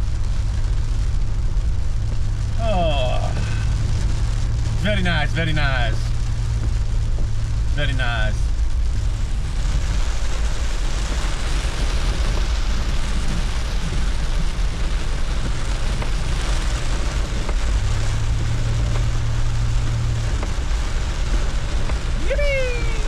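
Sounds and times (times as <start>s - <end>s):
car engine rumble: 0.0s - 23.0s
heavy rain drumming on car roof: 0.0s - 23.0s
tyres on wet road: 0.0s - 23.0s.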